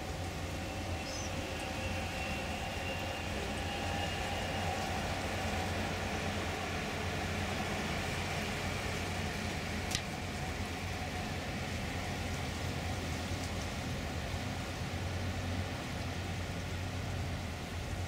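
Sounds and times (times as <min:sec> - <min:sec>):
constant low hum: 0:00.0 - 0:18.0
distant train rumble: 0:00.0 - 0:18.0
faint high whine: 0:00.0 - 0:18.0.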